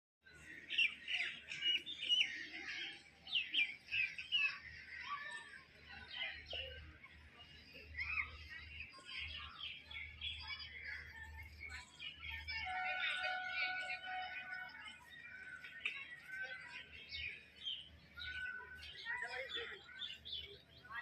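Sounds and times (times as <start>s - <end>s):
birds chirping: 0.3s - 21.0s.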